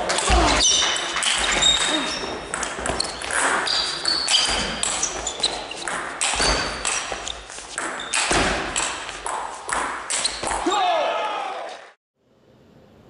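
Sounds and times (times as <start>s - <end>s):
shoes squeaking on floor: 0.0s - 10.6s.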